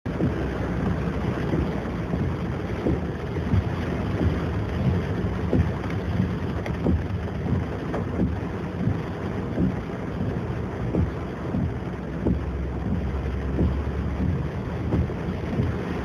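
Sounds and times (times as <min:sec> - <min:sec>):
rain on a car roof: 0:00.0 - 0:16.0
irregular thuds: 0:00.1 - 0:16.0.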